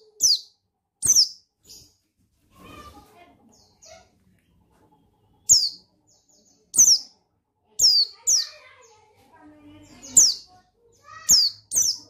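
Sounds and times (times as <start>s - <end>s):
soft bird chirps: 0.0s - 12.0s.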